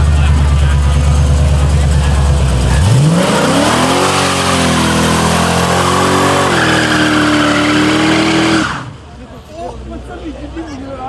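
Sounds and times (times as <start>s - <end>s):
car engine revving hard: 0.0s - 9.0s.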